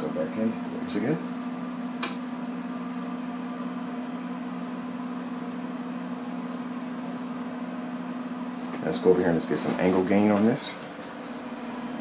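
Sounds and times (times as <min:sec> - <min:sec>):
projector cooling fan whirring: 0:00.0 - 0:12.0.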